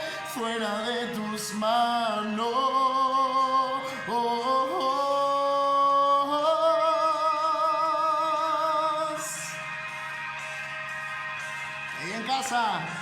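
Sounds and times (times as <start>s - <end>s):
person singing worship song: 0.0s - 13.0s.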